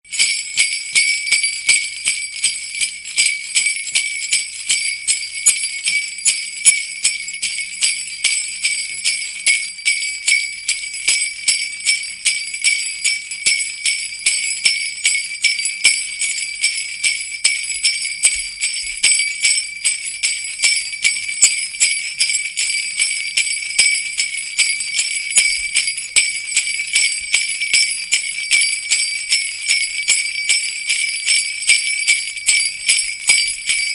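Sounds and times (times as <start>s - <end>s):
sleigh bells jingling: 0.1s - 33.9s.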